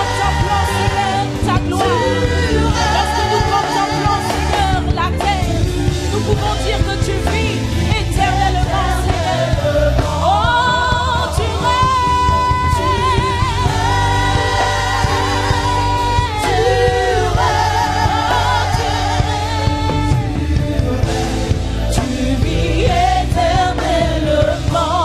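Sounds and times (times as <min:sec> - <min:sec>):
band playing gospel music: 0:00.0 - 0:25.0
woman singing with vibrato: 0:00.0 - 0:25.0.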